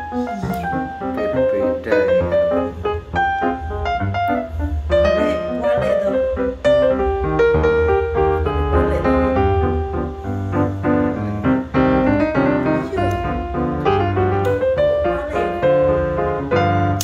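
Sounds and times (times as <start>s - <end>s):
piano tune with bass: 0.0s - 17.0s.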